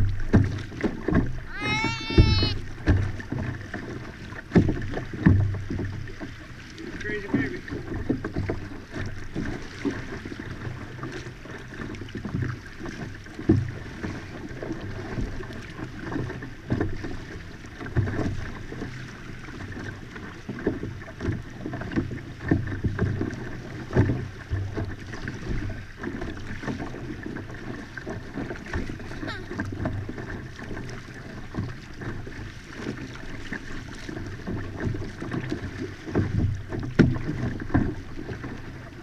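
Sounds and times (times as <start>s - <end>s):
knocks and splashes: 0.0s - 39.0s
water lapping against hull: 0.0s - 39.0s.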